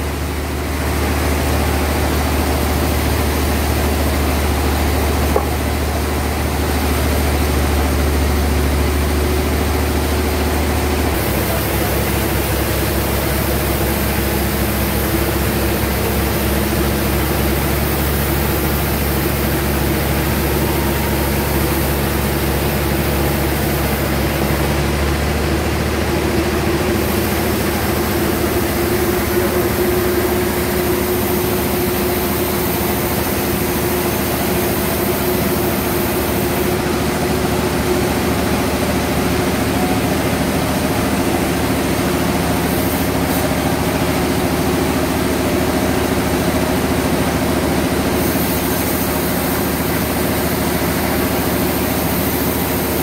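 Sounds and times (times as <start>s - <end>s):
bandsaw machine drone: 0.0s - 53.0s.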